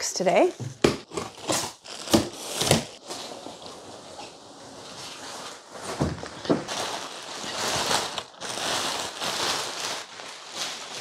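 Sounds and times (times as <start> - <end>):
plastic wrapping crinkling: 0.8 - 11.0.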